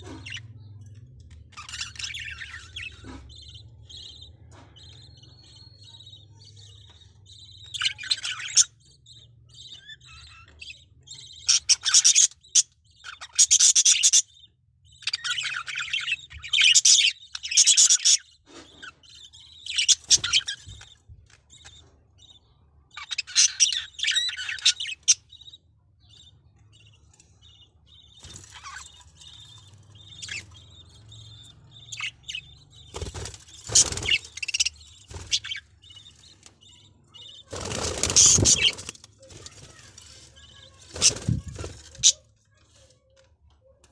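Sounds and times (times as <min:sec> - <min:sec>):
budgerigars chattering and chirping: 0:00.0 - 0:43.1.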